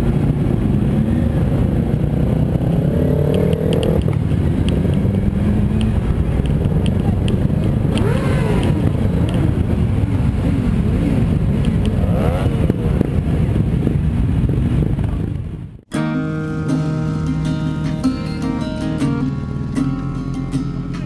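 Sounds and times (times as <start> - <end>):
motorcycle engines rumbling and revving: 0.0 - 21.0.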